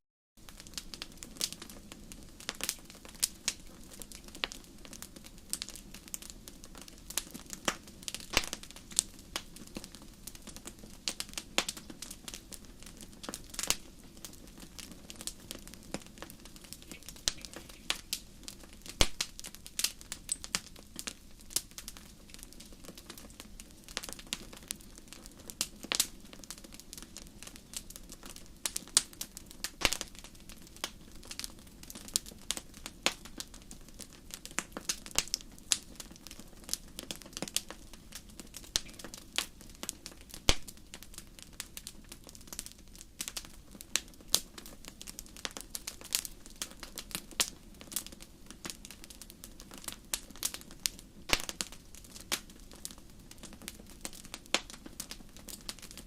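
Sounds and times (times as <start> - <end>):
wood fire crackling: 0.4 - 56.0.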